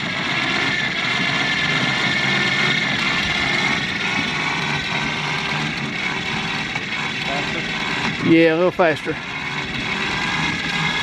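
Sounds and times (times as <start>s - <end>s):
belt drive whirring and whining: 0.0s - 11.0s.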